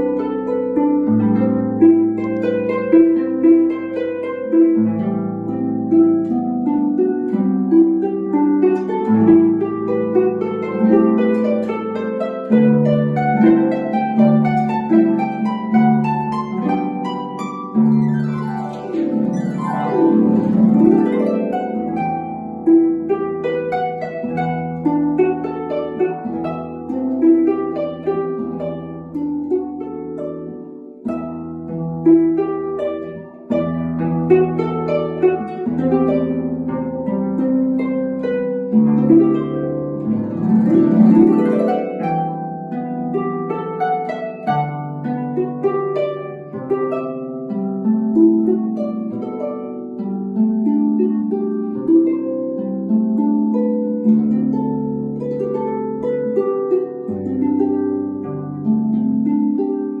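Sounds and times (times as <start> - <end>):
harp playing: 0.0 - 60.0.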